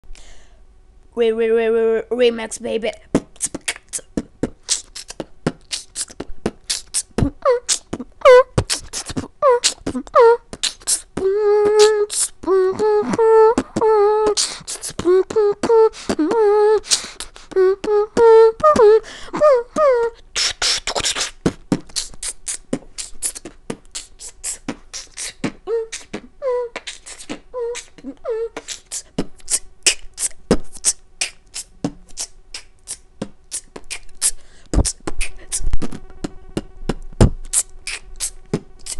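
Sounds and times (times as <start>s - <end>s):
person beatboxing: 3.1s - 19.0s, 19.6s - 38.9s
person humming a melody: 3.1s - 38.9s.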